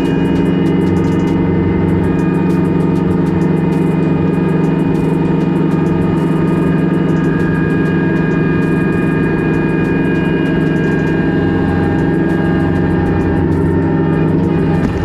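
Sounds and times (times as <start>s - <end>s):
diesel tractor engine running: 0.0s - 15.0s
high whining tones: 0.0s - 15.0s.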